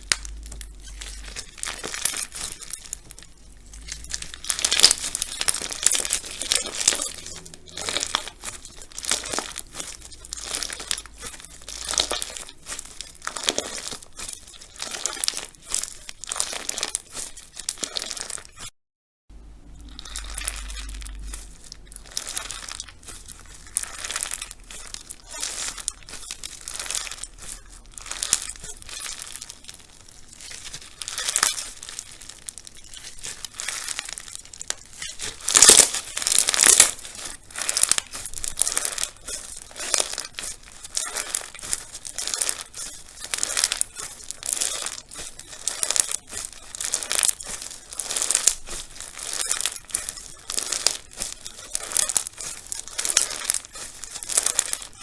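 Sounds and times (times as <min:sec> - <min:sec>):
crunchy slime crackling: 0:00.0 - 0:18.7, 0:19.3 - 0:55.0.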